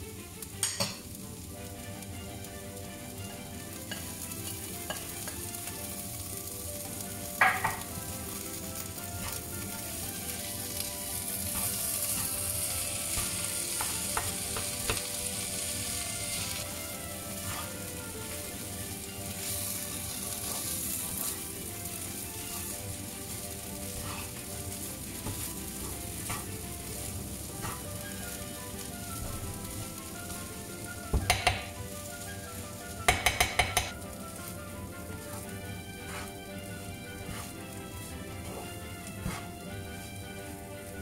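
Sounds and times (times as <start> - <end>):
food sizzling in a frying pan: 0.0 - 41.0
spatula scraping a pan: 3.0 - 41.0.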